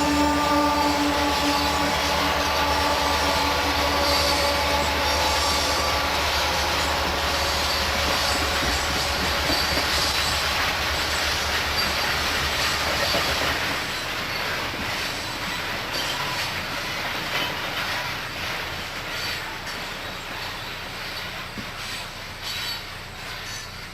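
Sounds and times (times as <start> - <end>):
faint wheel squeal: 0.0 - 10.5, 11.1 - 16.7, 18.7 - 23.9
freight train wheels rumbling: 0.0 - 23.9
wheels clicking over rail joints: 0.0 - 23.9.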